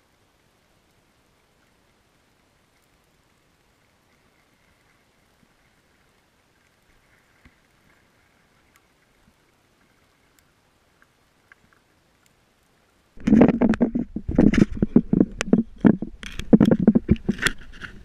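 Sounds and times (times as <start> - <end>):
faint clicks: 0.8 - 18.0.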